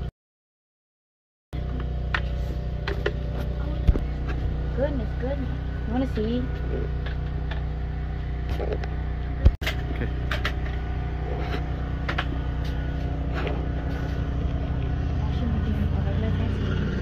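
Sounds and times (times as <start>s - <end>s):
car engine and road hum: 1.6s - 17.0s.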